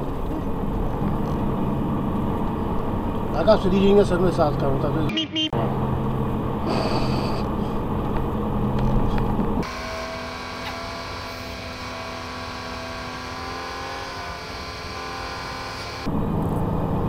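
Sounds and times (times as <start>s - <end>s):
lorry engine drone in cab: 0.0s - 17.0s.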